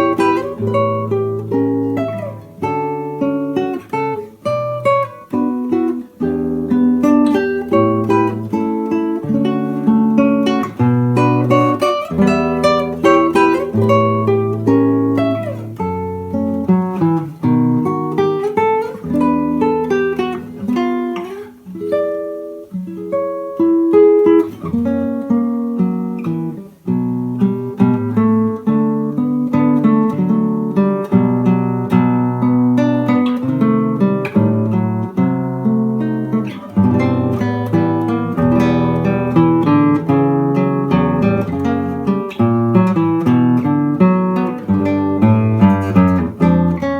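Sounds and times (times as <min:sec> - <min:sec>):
solo acoustic guitar: 0:00.0 - 0:46.9.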